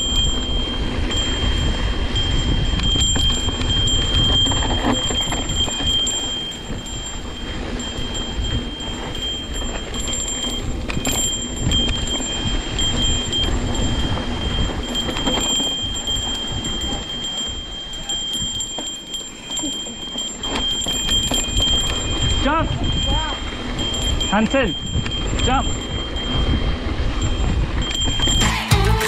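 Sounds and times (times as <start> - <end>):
wind and trail rumble: 0.0 - 28.4
bicycle freewheel buzz: 0.0 - 29.0.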